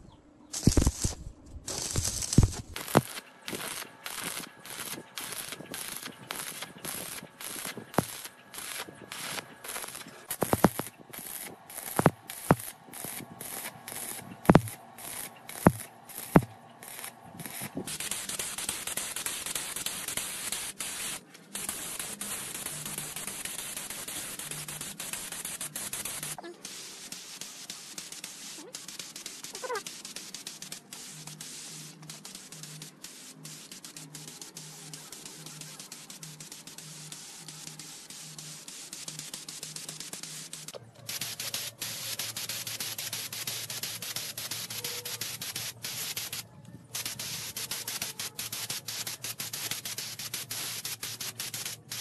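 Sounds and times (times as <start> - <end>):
hissing strokes: 0.5 - 46.4.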